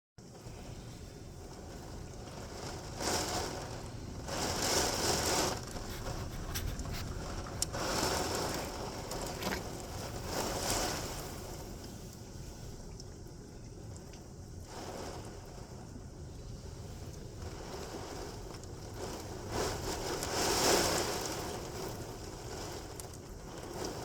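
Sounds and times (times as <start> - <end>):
torrential rain: 0.2 - 24.0
gusting wind: 0.3 - 24.0.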